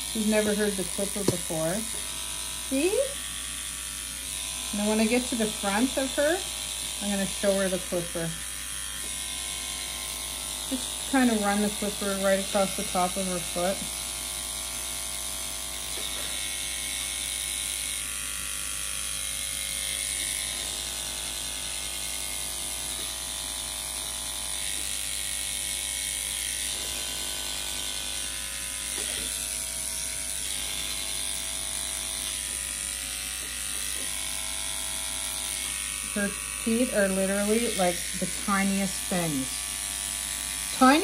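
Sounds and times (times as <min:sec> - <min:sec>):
electric pet clipper humming: 0:00.0 - 0:41.0.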